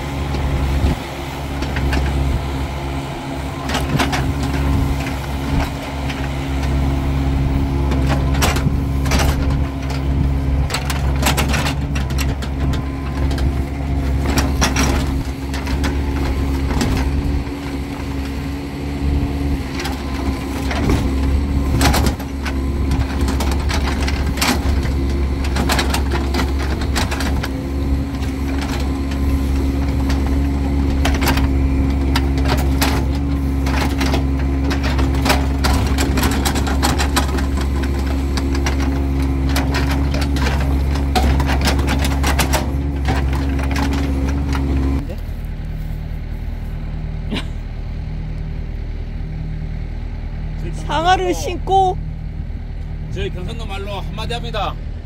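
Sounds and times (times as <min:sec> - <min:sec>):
bucket and arm clanking: 0:00.0 - 0:45.2
excavator diesel engine under load: 0:00.0 - 0:55.0.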